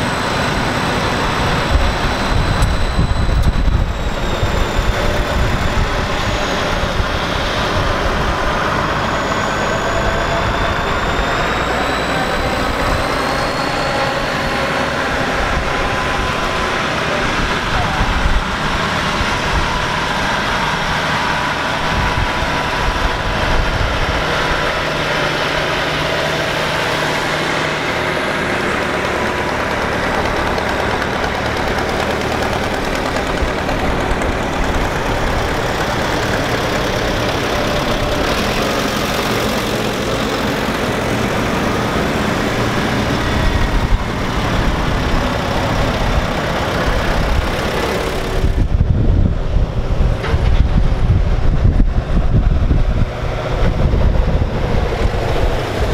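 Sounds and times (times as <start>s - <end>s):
tractor engines passing: 0.0s - 55.9s.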